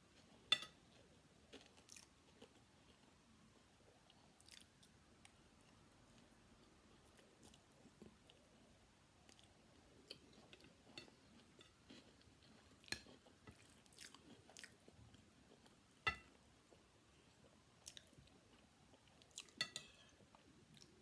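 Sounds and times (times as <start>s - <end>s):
faint chewing: 0.1s - 21.0s.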